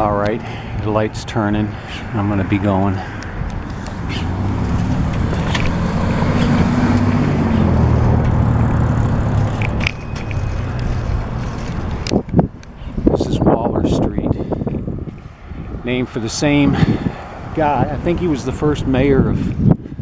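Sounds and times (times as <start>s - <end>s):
car engines pulling away: 0.0s - 19.8s
steady low traffic hum: 0.0s - 20.0s.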